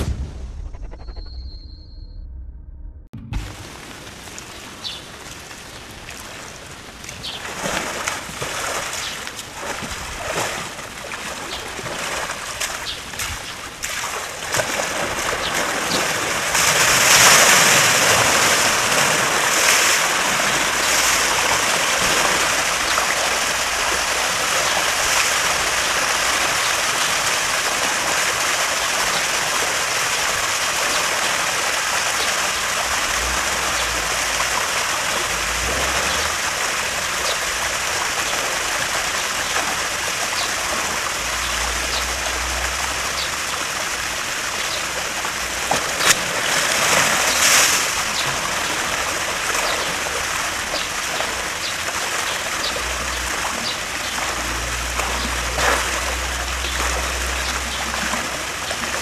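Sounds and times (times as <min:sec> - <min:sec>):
water splashing: 0:03.2 - 0:59.0
water gushing over concrete steps: 0:03.5 - 0:59.0.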